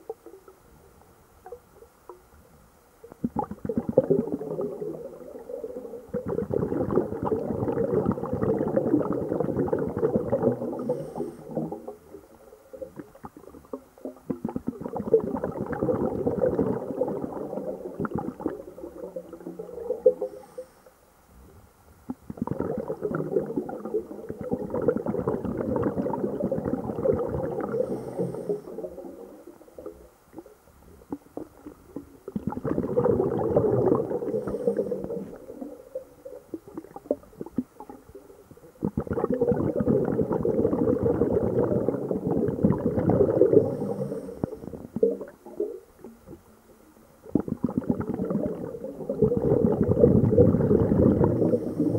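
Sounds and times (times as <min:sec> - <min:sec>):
underwater bubbles rumbling: 0:03.1 - 0:20.5, 0:22.0 - 0:51.9.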